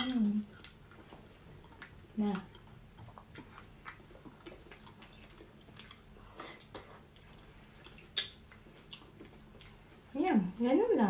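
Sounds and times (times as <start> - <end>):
wet chewing and lip-smacking: 0.5 - 10.1.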